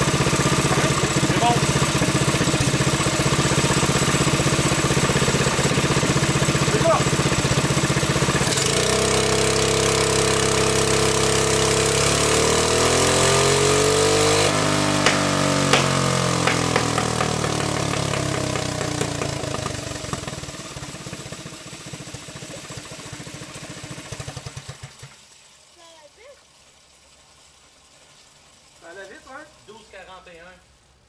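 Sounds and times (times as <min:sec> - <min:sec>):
small engine running: 0:00.0 - 0:30.6.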